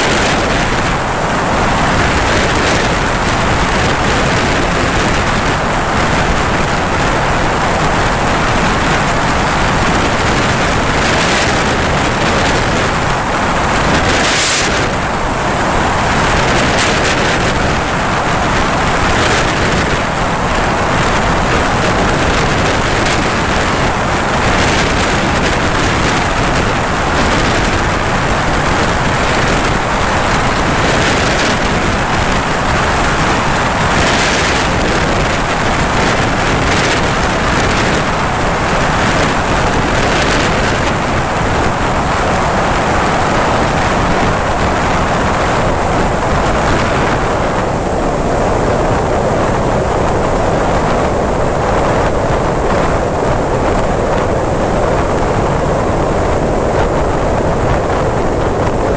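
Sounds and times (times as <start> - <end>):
light aircraft engine in flight: 0.0 - 58.9.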